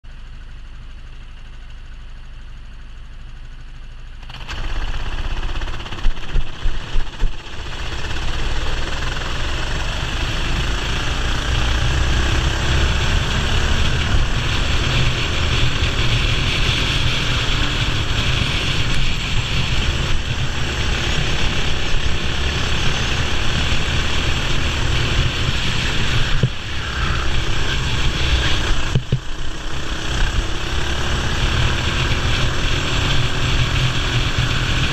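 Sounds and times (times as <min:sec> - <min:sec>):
racing kart engine: 0:00.1 - 0:34.9.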